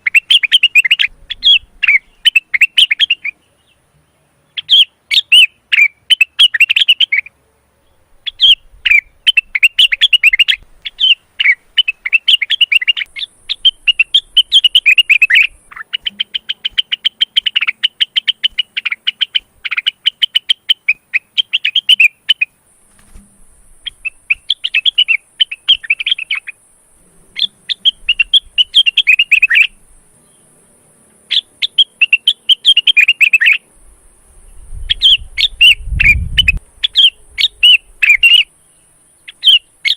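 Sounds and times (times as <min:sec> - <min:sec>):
bird singing chattering song: 0:00.0 - 0:33.7, 0:34.4 - 0:39.9.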